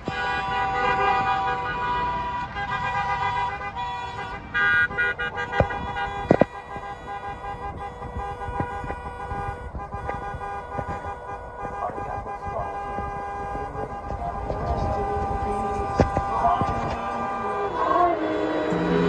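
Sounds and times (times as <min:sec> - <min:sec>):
car horns honking: 0:00.0 - 0:19.0.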